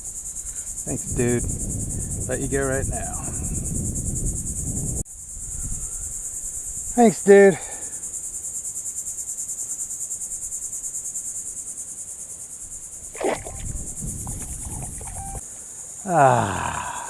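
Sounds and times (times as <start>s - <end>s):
pulsing insect chorus: 0.0s - 17.0s.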